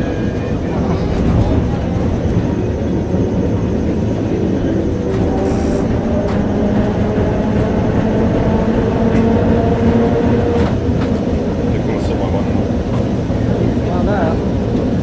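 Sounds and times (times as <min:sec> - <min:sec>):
tram rumble and hum: 0:00.0 - 0:15.0.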